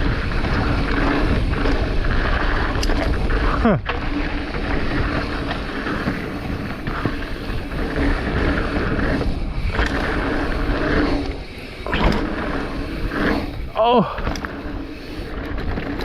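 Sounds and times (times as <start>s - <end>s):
bike clicks and knocks: 0.0s - 16.0s
tyres rolling over dirt: 0.0s - 16.0s
wind on microphone: 0.0s - 16.0s.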